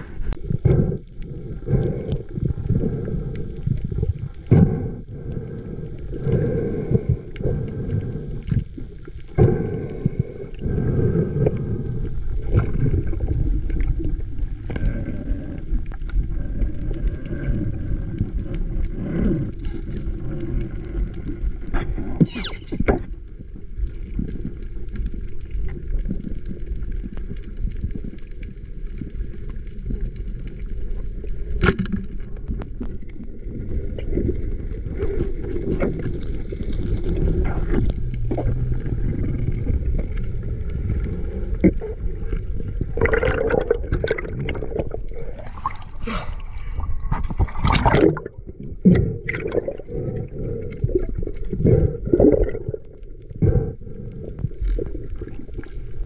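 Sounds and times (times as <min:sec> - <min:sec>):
underwater gurgling and knocks: 0:00.0 - 0:05.5, 0:06.2 - 0:56.0
underwater water rush: 0:00.0 - 0:56.0.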